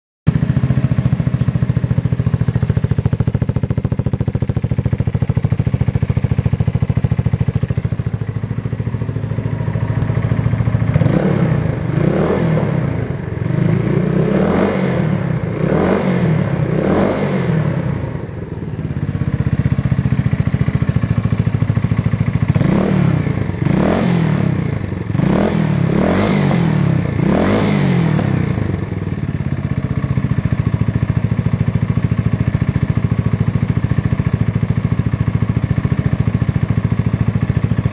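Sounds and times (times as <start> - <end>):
motorcycle engine idling and revving: 0.3 - 37.9.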